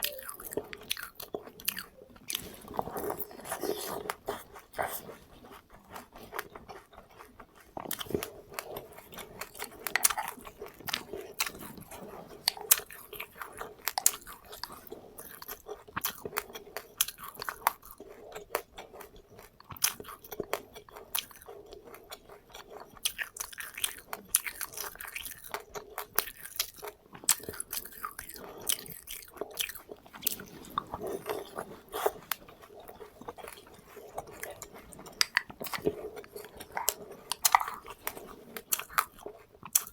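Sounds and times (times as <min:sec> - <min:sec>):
chewing and crunching seeds: 0:00.0 - 0:39.9.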